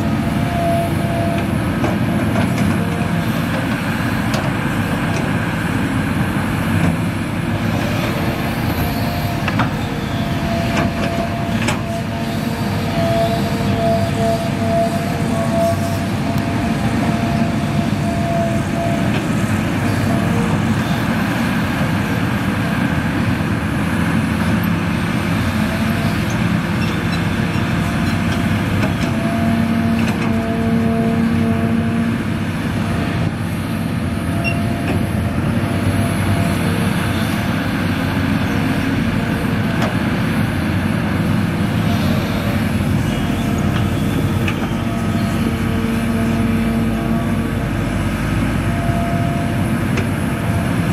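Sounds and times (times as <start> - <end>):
excavator diesel engine: 0.0 - 50.9
hydraulics whining: 0.0 - 50.9.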